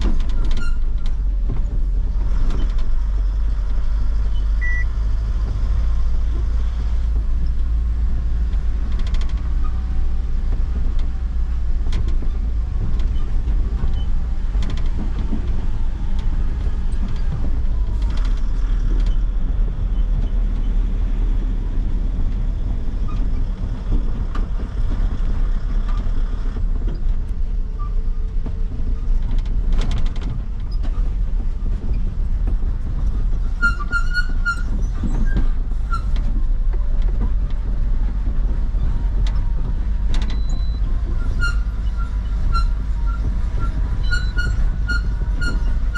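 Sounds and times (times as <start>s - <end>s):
rattles and knocks: 0.0s - 4.3s, 5.0s - 45.9s
truck engine and road rumble: 0.0s - 45.9s.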